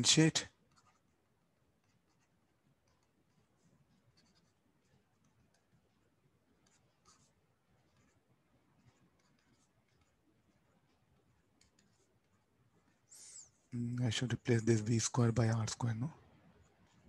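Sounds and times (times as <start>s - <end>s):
stylus scratching on tablet screen: 0.0s - 17.0s.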